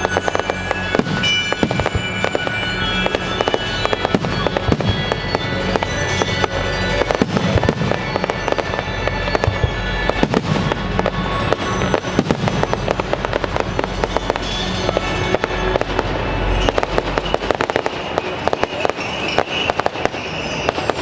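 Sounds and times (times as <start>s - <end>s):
firework explosions and crackles: 0.0s - 21.0s
music soundtrack: 0.0s - 21.0s.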